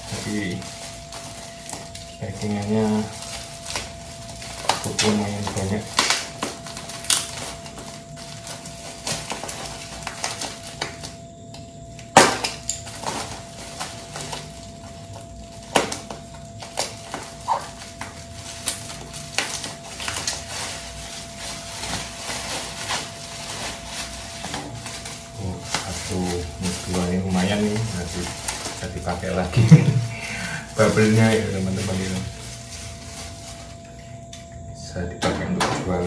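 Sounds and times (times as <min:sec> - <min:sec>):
bubble wrap crinkling and rustling: 0:00.0 - 0:34.5.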